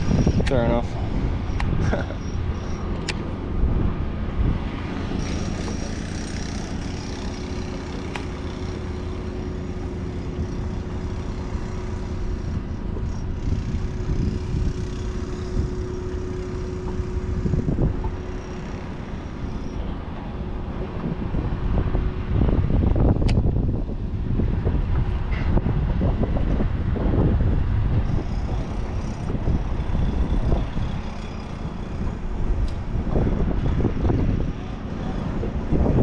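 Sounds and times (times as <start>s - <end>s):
wind rumble on microphone: 0.0s - 36.0s.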